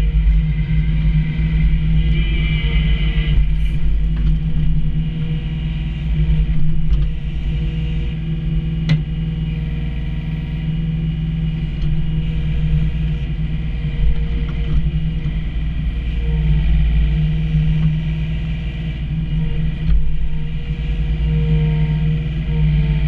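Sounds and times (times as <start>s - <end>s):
diesel engine running: 0.0s - 23.0s
hydraulics working: 0.0s - 23.0s.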